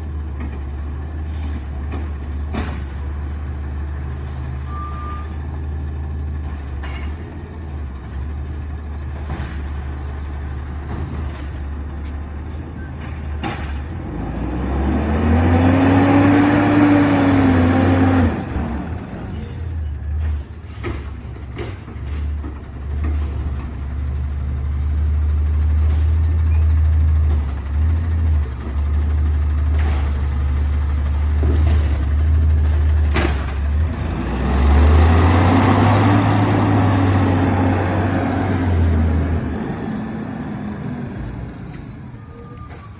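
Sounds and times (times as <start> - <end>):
garbage truck engine running: 0.0 - 41.4.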